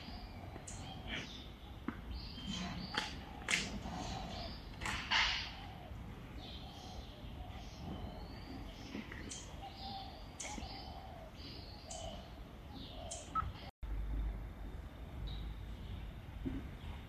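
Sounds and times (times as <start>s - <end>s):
small birds chirping: 0.0s - 13.7s
low outdoor rumble: 0.0s - 17.0s.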